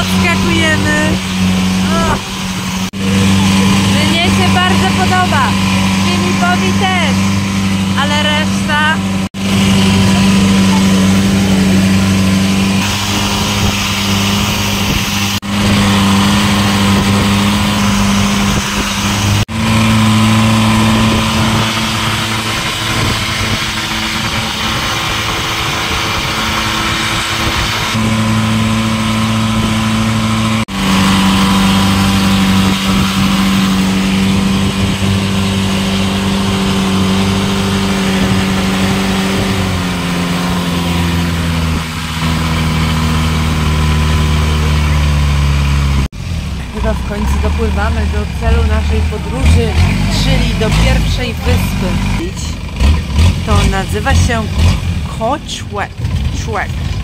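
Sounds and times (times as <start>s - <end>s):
wind and water rushing: 0.0s - 45.6s
boat engine droning: 0.0s - 57.0s.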